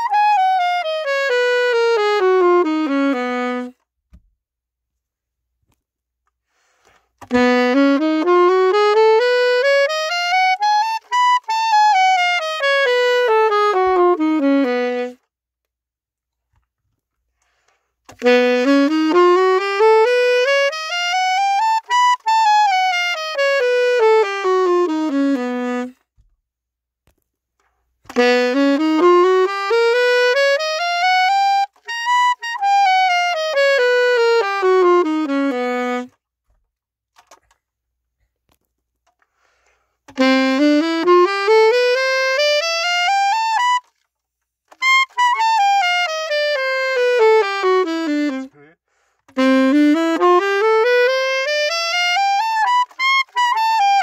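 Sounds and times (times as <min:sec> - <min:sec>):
saxophone playing scales: 0:00.0 - 0:04.0, 0:06.6 - 0:15.4, 0:17.3 - 0:26.2, 0:27.6 - 0:36.4, 0:38.5 - 0:54.0.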